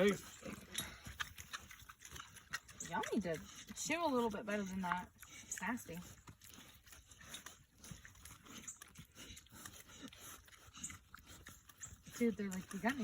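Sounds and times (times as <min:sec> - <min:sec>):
pigs chewing and smacking: 0:00.0 - 0:13.0.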